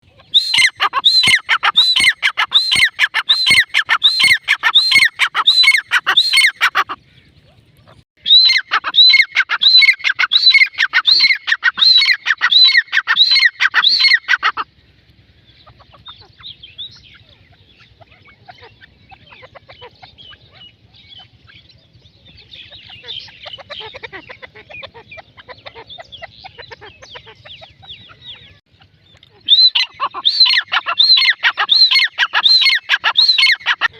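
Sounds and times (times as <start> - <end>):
soft chattering bird notes: 0.0 - 33.9.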